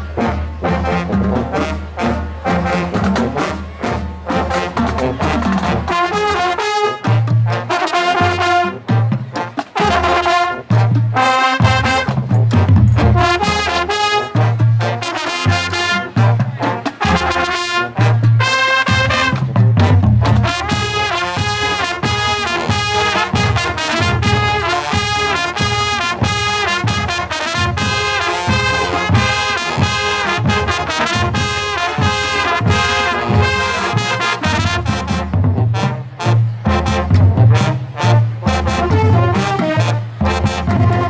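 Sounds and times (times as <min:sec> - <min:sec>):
marching band playing: 0:00.0 - 0:41.0.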